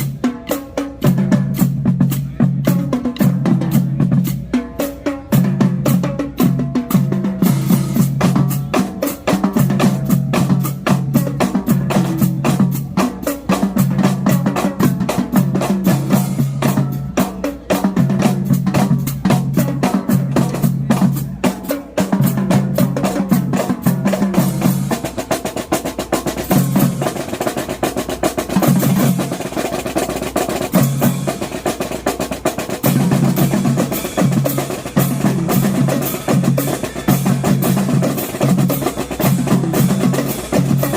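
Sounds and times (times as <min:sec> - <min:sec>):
pitched bass drum notes: 0:00.0 - 0:40.9
snare drum strokes and rolls: 0:00.0 - 0:40.9.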